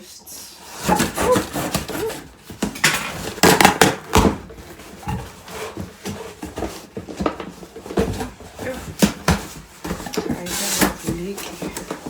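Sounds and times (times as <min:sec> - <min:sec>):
packaging rustling and knocking: 0:00.8 - 0:12.0.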